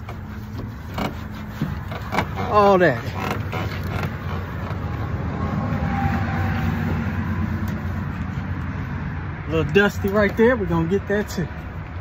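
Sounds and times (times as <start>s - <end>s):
broad rushing noise: 0.0s - 12.0s.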